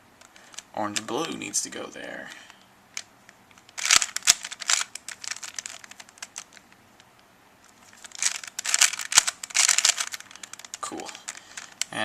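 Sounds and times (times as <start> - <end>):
puzzle cube plastic clicking: 0.2 - 1.6, 2.4 - 12.0.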